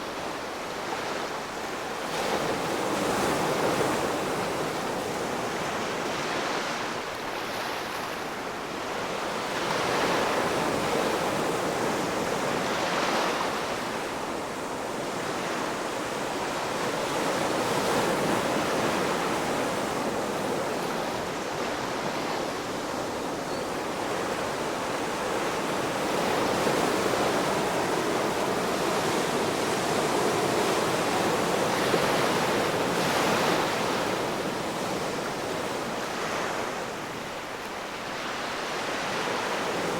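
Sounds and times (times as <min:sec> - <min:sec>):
ocean waves on shore: 0:00.0 - 0:39.9.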